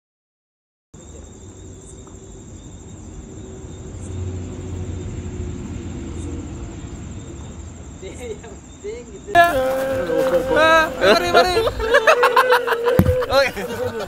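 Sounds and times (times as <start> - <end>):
crickets trilling: 1.0 - 14.0.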